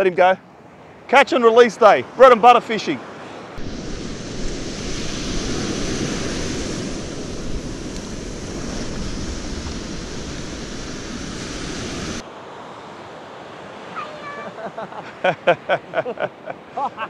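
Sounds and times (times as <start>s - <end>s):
waves breaking on sand beach: 0.6s - 17.0s.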